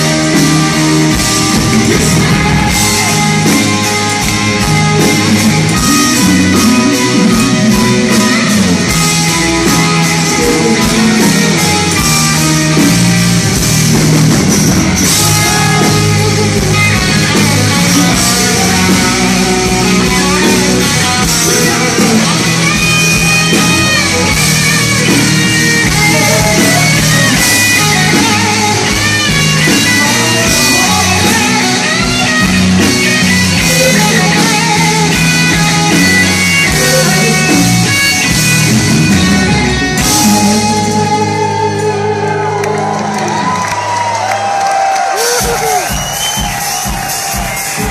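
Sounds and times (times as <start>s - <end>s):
drums: 0.0s - 47.9s
electric guitar: 0.0s - 47.9s
rock band playing live: 0.0s - 47.9s.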